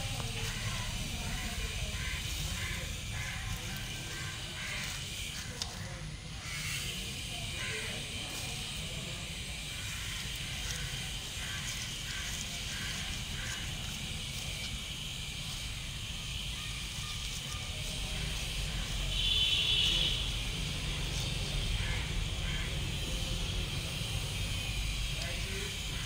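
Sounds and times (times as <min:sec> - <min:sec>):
wood chips crackling: 0:00.0 - 0:06.7, 0:07.6 - 0:26.0.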